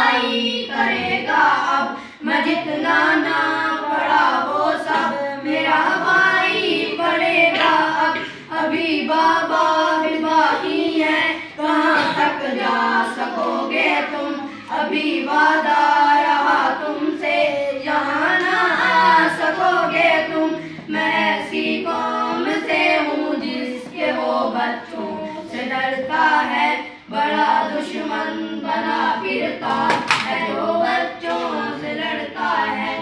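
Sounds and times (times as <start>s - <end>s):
boys singing in chorus: 0.0s - 33.0s.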